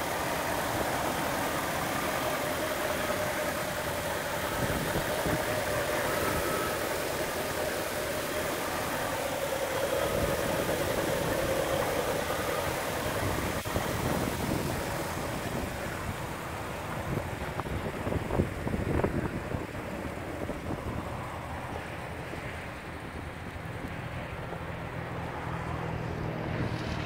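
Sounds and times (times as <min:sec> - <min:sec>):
car engine idling: 0:00.0 - 0:25.4.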